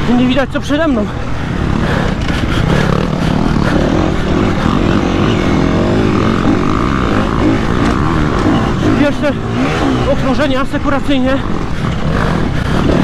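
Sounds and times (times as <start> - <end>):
dirt bike engine revving: 0.0 - 13.0
other dirt bikes running: 0.0 - 13.0.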